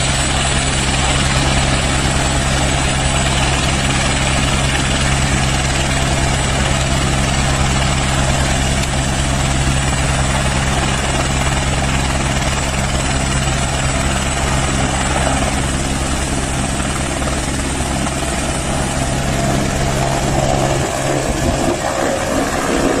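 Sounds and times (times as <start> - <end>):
helicopter rotor beat: 0.0 - 23.0
high turbine whine: 0.0 - 23.0.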